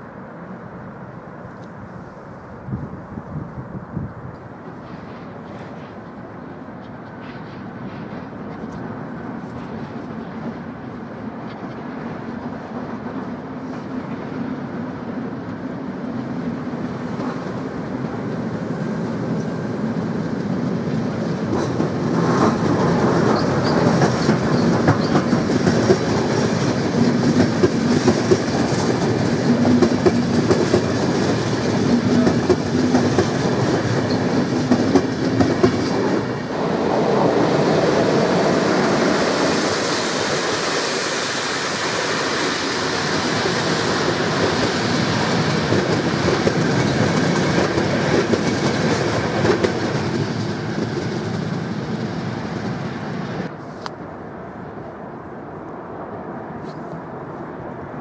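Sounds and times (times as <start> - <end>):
train wheels rumbling on rails: 0.0 - 54.9
closer train passing: 0.0 - 58.0
clickety-clack over rail joints: 4.3 - 18.6, 19.3 - 40.8, 42.3 - 54.0.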